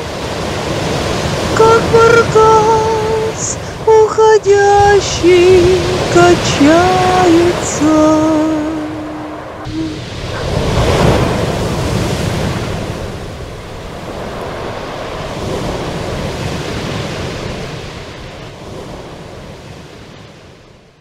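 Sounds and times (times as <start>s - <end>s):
sea surf breaking: 0.0s - 21.0s.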